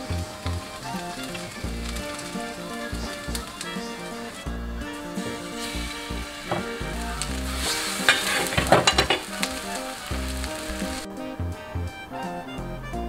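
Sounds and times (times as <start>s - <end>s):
battered slices sizzling in oil: 0.0s - 11.2s
sharp crackles of frying: 0.0s - 11.2s.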